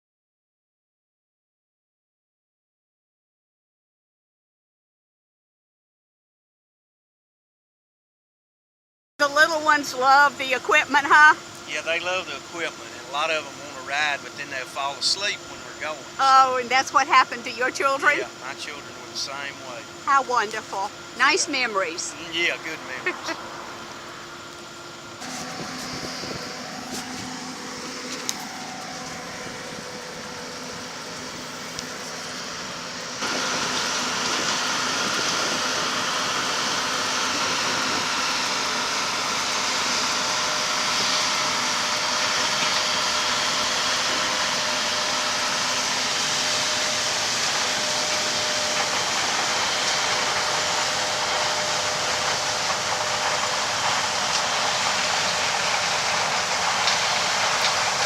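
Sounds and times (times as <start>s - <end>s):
combine harvester drone: 9.2s - 58.0s.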